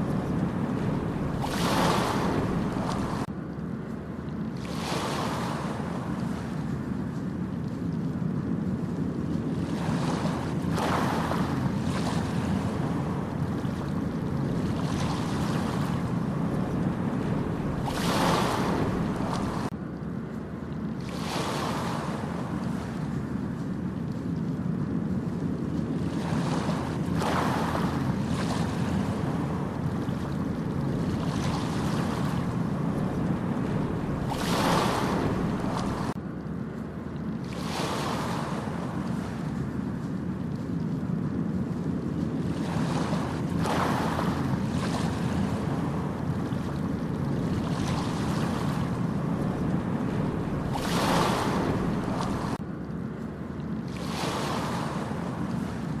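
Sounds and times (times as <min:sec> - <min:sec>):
ocean waves breaking: 0:00.0 - 0:03.4, 0:04.3 - 0:19.8, 0:20.5 - 0:36.2, 0:37.2 - 0:52.7, 0:53.4 - 0:56.0
low roar of sea: 0:00.0 - 0:56.0.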